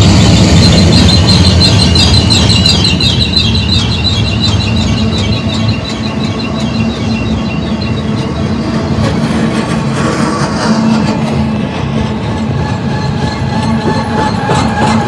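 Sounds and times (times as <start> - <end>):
train wheels rumbling on track: 0.0 - 15.0
wheels squealing on rails: 0.0 - 15.0.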